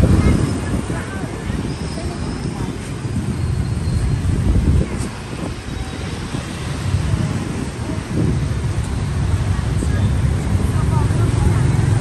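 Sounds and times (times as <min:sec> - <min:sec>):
street traffic rumble: 0:00.0 - 0:12.0
wind buffeting microphone: 0:00.0 - 0:12.0.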